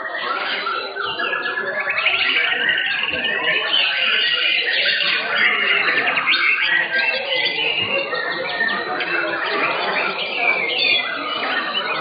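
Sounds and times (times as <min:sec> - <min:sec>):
birds singing whistles and trills: 0:00.1 - 0:12.0.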